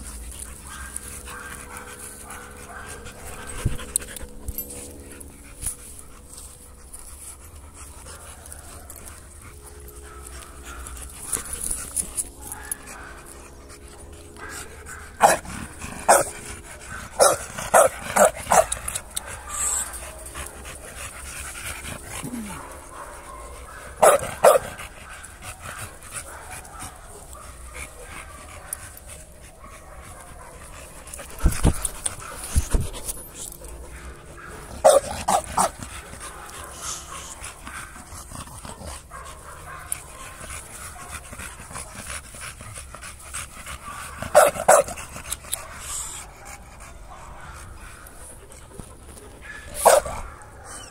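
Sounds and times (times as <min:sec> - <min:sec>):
dog panting: 0:00.0 - 0:50.9.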